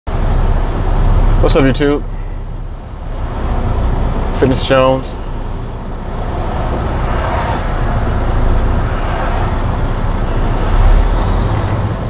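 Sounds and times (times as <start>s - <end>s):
diesel engine rumble: 0.1s - 12.0s
road and traffic noise: 0.1s - 12.0s.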